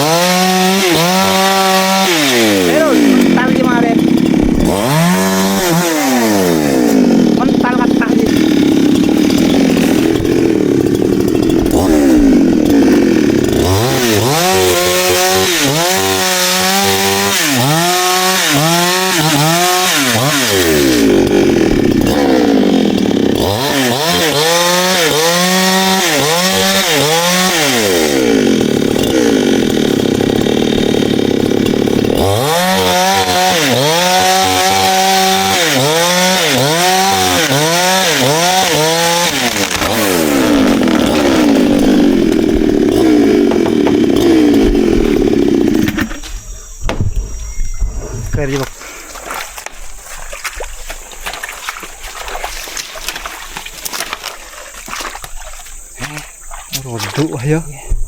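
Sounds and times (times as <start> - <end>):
chainsaw cutting wood: 0.0 - 47.4, 48.2 - 57.6.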